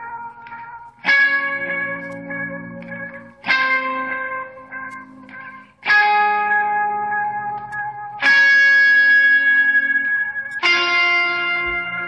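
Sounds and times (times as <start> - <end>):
electric guitar chords ringing: 0.0 - 12.0.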